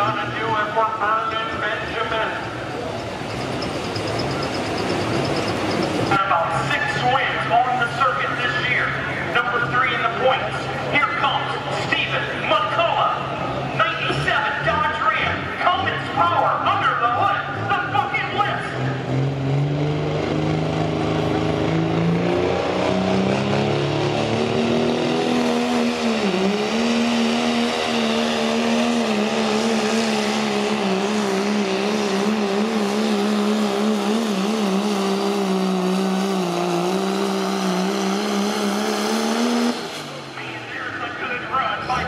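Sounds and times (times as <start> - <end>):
diesel engine running flat out: 0.0 - 42.0.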